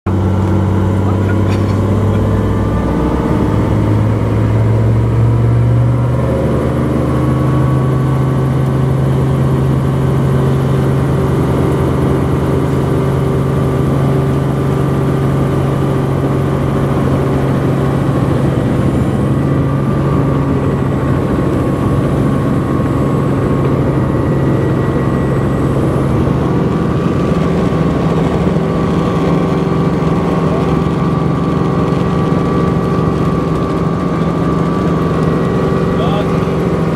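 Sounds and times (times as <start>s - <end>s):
helicopter engine and rotor: 0.1s - 36.9s.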